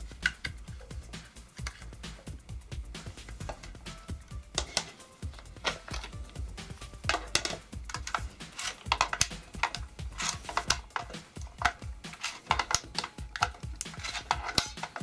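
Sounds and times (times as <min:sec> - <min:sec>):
background music: 0:00.0 - 0:15.0
hard objects clicking and tapping: 0:00.0 - 0:15.0.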